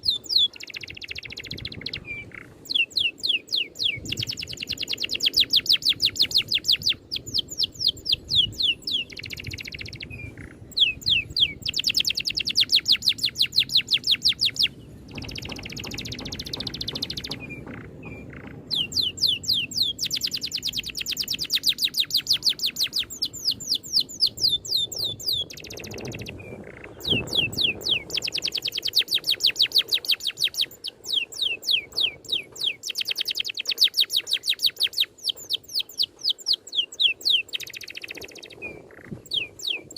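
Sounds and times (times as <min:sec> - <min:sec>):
songbird rolling trill: 0:00.0 - 0:39.9.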